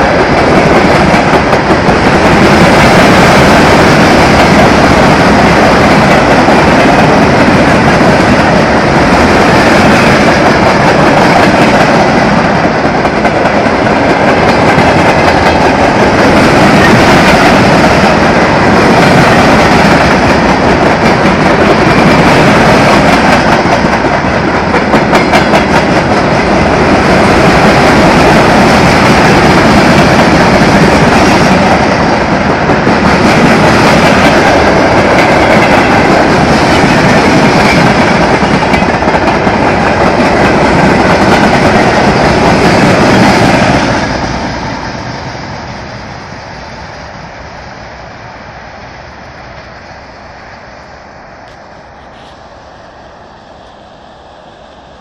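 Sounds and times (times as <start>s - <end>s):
train wheels clattering over rail joints: 0.0s - 44.6s.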